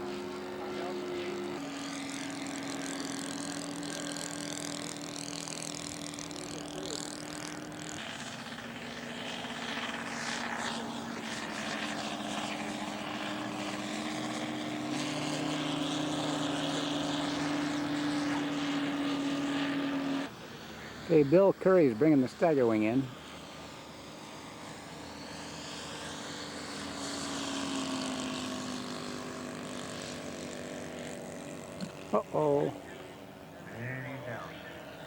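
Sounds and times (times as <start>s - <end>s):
model airplane propeller engines: 0.0s - 35.0s.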